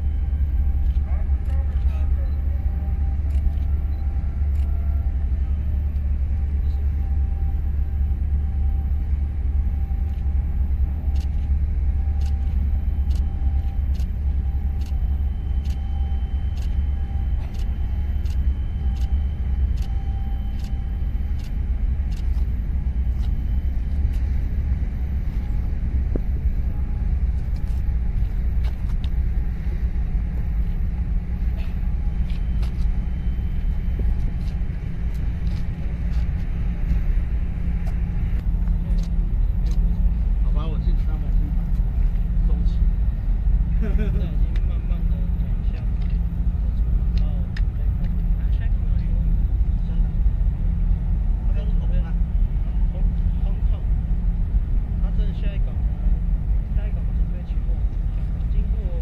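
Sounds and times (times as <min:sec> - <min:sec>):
faint steady hum: 0:00.0 - 0:59.0
low harbour rumble: 0:00.0 - 0:59.0.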